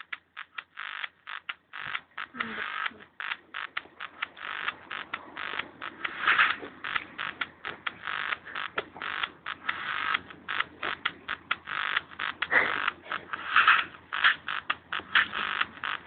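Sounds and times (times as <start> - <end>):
stuttering electro dance music: 0.0 - 16.0.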